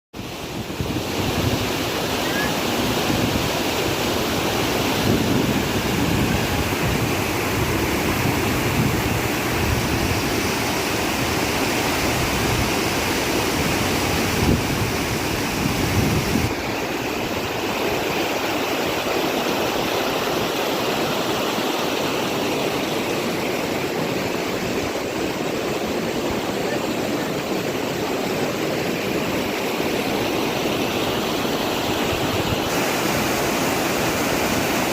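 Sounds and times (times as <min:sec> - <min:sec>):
floodwater rushing: 0:00.2 - 0:34.9.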